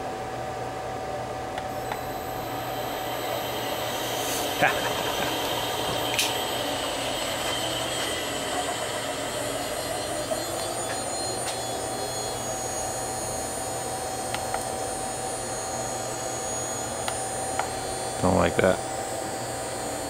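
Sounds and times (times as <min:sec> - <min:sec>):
electric motor whirring and whining: 0:01.6 - 0:20.0.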